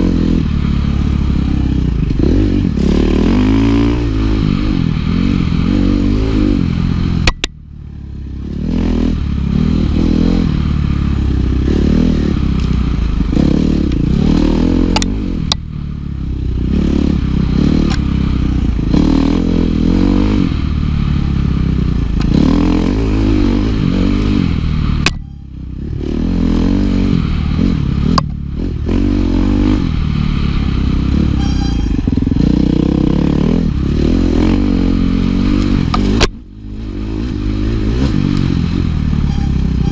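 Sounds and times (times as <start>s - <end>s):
dirt bike engine revving: 0.0s - 7.4s, 8.0s - 39.9s.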